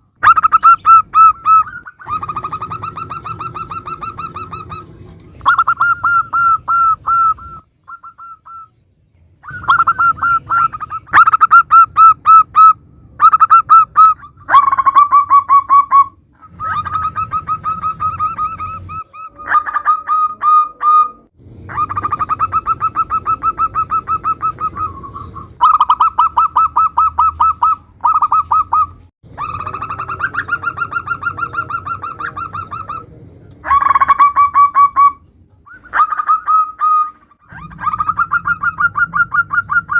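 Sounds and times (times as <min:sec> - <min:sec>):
doves cooing: 0:00.0 - 0:08.8, 0:09.4 - 0:39.9.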